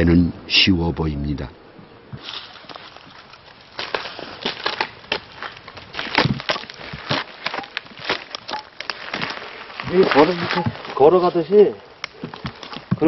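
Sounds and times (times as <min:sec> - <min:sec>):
bark and forest litter scraping: 0:02.2 - 0:12.9
bark crackling and cracking: 0:02.2 - 0:13.0.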